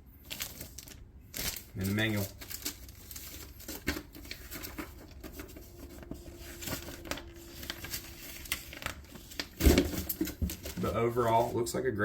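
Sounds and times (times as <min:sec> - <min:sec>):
packaging rustling and crinkling: 0:00.2 - 0:11.8.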